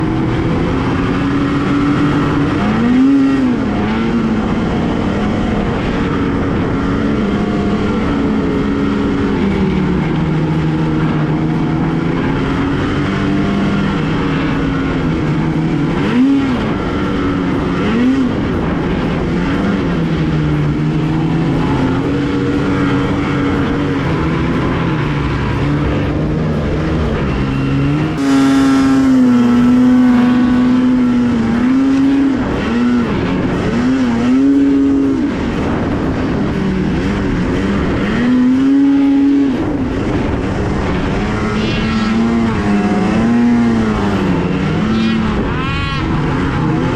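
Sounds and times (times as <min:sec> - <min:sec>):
snowmobile engine revving: 0:00.0 - 0:46.9.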